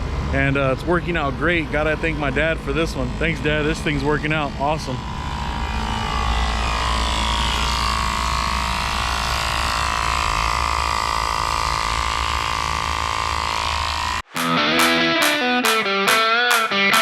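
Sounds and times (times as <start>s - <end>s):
tire inflator mechanical whine: 1.2s - 17.0s.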